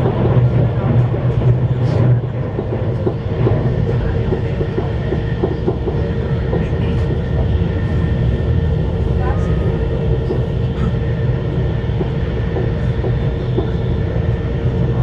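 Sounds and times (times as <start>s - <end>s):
train cabin rumble: 0.0s - 15.0s.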